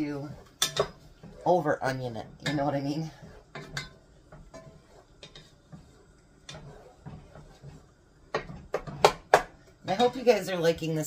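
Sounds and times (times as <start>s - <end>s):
wooden spoon scraping metal pot: 0.0s - 10.6s.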